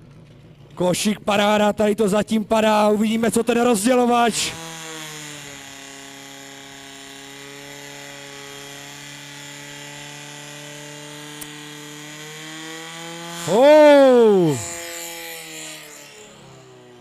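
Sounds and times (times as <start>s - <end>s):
pump engine running at high revs: 0.0s - 17.0s.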